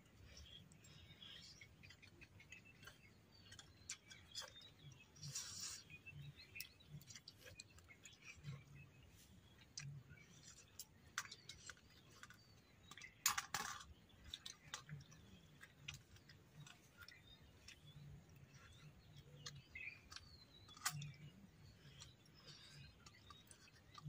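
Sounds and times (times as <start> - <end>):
soft chewing: 0.0 - 13.2, 13.8 - 24.0
faint bird chirps: 0.0 - 24.0.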